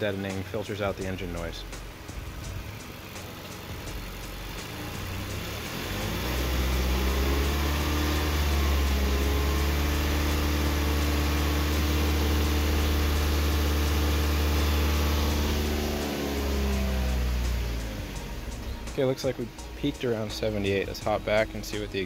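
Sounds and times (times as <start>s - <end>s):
car engine steady hum: 0.0s - 22.0s.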